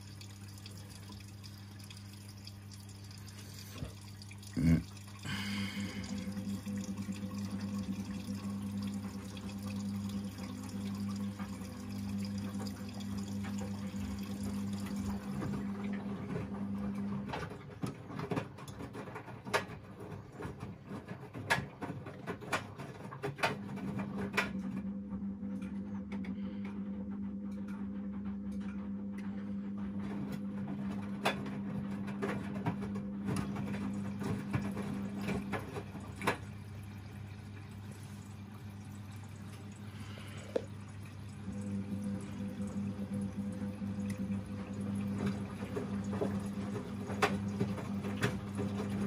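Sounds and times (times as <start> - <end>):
washing machine hum: 0.0 - 49.0
water and laundry sloshing: 0.0 - 49.0.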